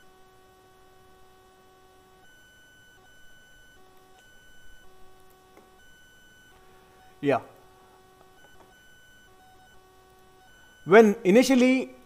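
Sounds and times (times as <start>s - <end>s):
faint electronic whine: 0.0s - 12.0s.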